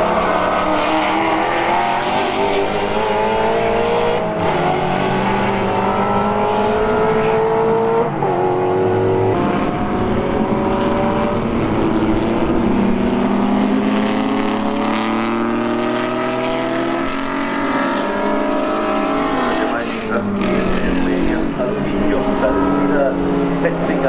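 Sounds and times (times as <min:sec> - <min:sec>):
racing car engines accelerating: 0:00.0 - 0:24.0
single-seater racing car accelerating: 0:00.0 - 0:24.0.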